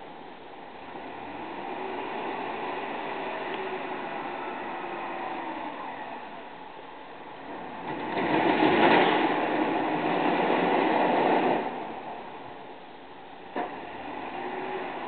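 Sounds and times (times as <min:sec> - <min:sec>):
wheel loader pushing snow: 0:00.8 - 0:12.7, 0:13.4 - 0:15.0.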